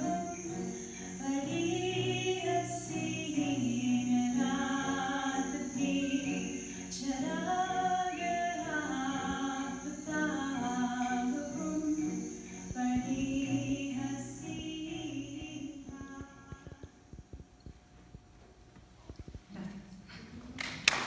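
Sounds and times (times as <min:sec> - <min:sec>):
woman singing slow song: 0:00.0 - 0:17.4.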